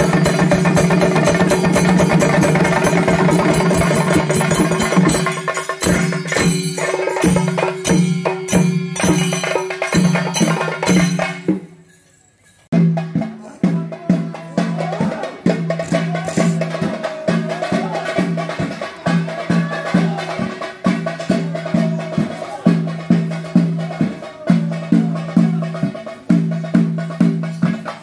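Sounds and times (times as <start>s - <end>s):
drums beaten with sticks: 0.0s - 11.9s, 12.7s - 28.0s.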